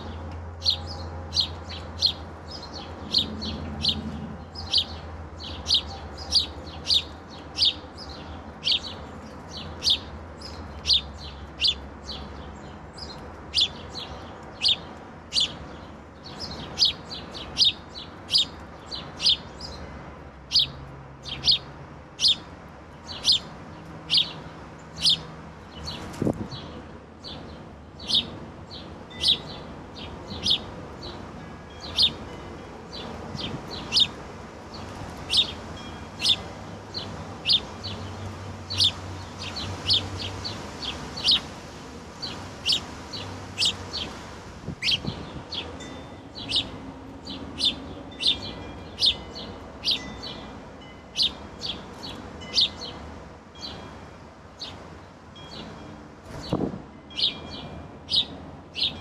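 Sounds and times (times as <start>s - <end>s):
songbirds chip notes: 0.0s - 19.9s, 20.5s - 41.6s, 42.2s - 59.0s.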